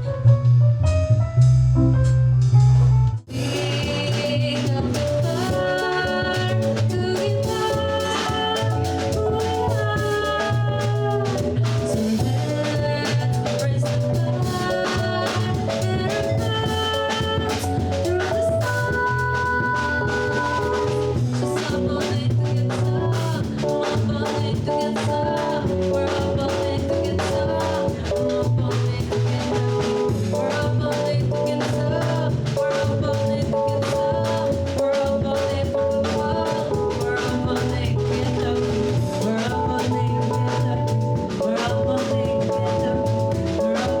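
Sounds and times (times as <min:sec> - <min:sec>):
bass line: 0:00.0 - 0:44.0
drum kit: 0:00.0 - 0:44.0
jazz quartet playing: 0:00.1 - 0:44.0.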